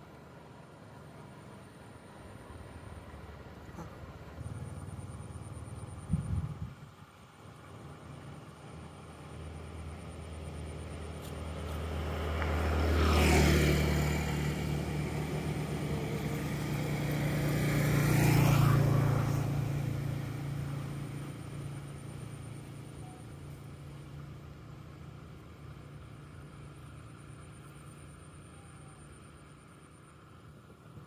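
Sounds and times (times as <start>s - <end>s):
vehicles driving past: 0.0s - 31.0s.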